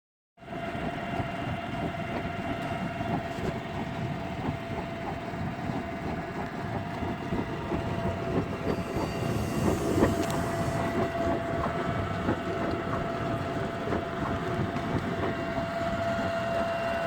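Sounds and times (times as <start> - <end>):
washing machine running: 0.4 - 17.0.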